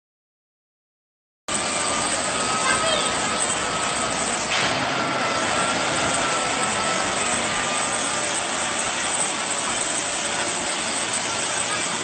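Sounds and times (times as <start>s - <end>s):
faint high whine: 1.5s - 12.0s
heavy machine engine running: 1.5s - 12.0s.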